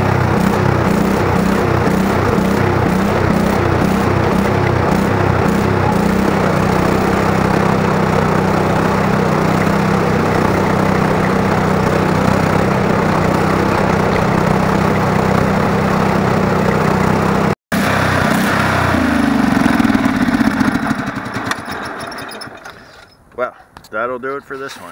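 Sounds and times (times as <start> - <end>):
lawn tractor engine running: 0.0 - 23.0.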